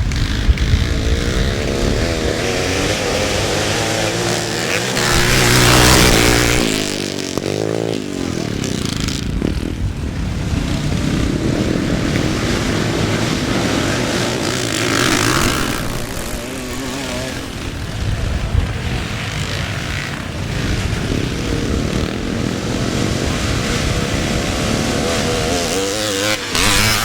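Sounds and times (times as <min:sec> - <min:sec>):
motocross motorcycles revving: 0:00.0 - 0:27.0.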